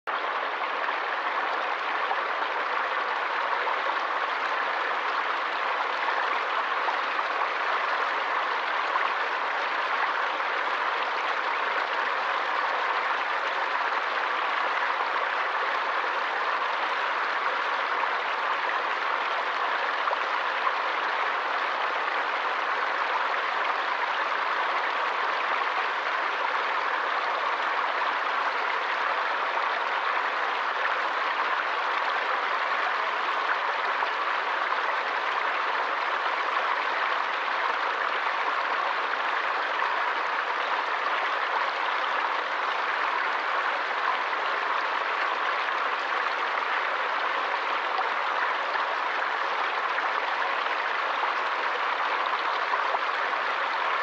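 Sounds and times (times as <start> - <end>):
stream water flowing: 0.1 - 54.0.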